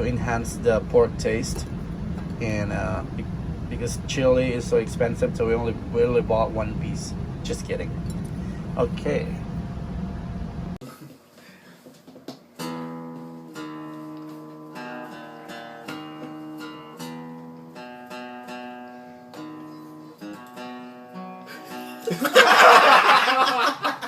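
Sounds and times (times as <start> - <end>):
acoustic guitar melody: 0.0 - 10.7, 12.4 - 22.8.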